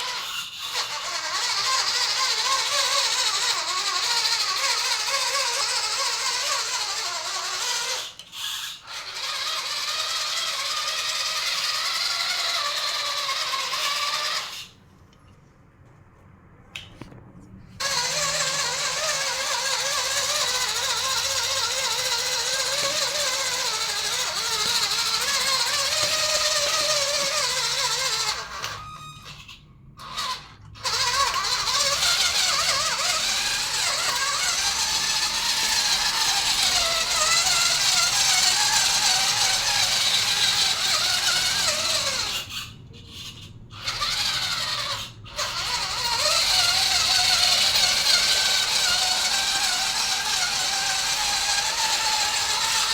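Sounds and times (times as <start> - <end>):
toy truck electric motor whining: 0.0 - 14.8, 17.8 - 52.9.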